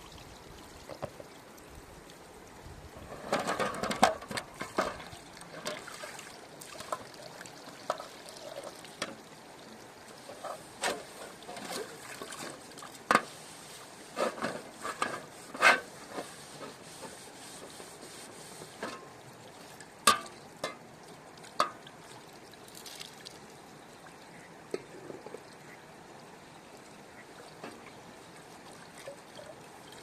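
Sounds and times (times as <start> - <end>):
water splashing and trickling: 0.0 - 30.0.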